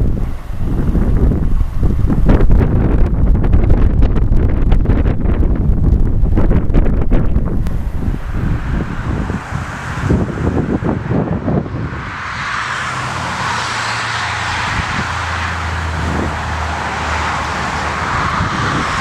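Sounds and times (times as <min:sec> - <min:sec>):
aircraft engine: 0:00.0 - 0:19.0
wind buffeting microphone: 0:00.0 - 0:19.0.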